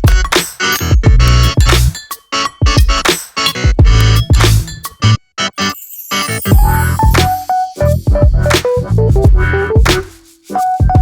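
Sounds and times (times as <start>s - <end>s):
electronic music with heavy bass beat: 0.0s - 5.2s, 6.2s - 11.0s.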